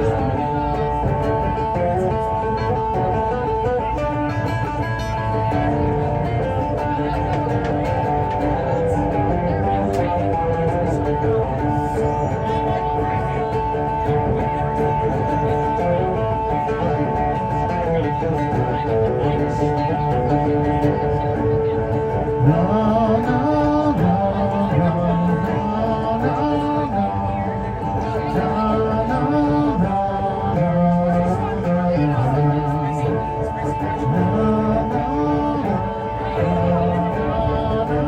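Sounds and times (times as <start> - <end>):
bass line: 0.0 - 38.0
guitar: 0.0 - 38.0.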